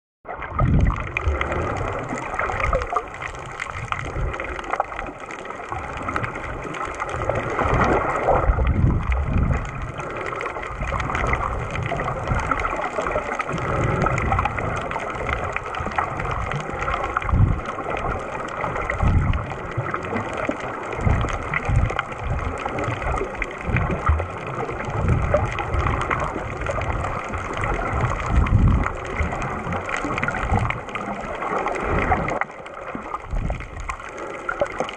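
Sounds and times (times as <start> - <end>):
muffled underwater rushing: 0.2 - 34.9.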